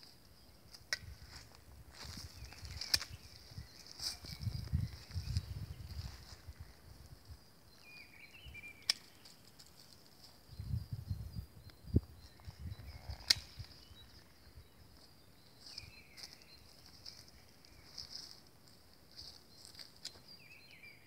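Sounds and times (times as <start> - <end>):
faint birdsong chirps: 0.0 - 21.0.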